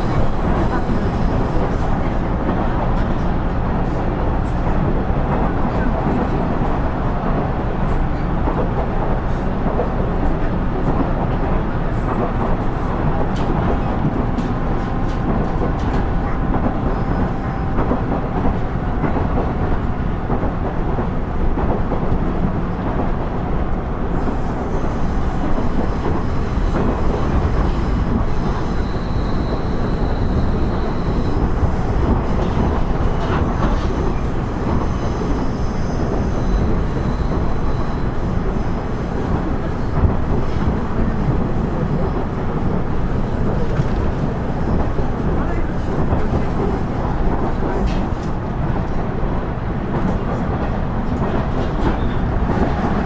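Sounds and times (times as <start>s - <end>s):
diesel railcar rumbling: 0.0s - 53.0s.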